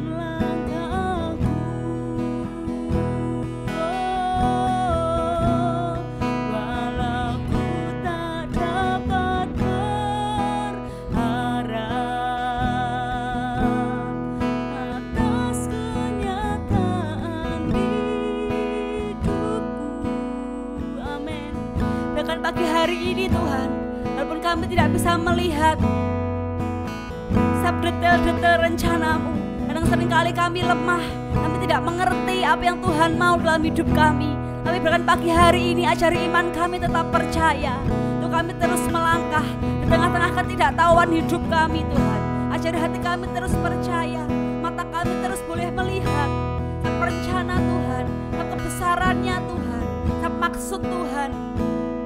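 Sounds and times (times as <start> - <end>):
woman singing with vibrato: 0.0 - 26.2, 27.3 - 51.8
strummed acoustic guitar: 0.0 - 52.0.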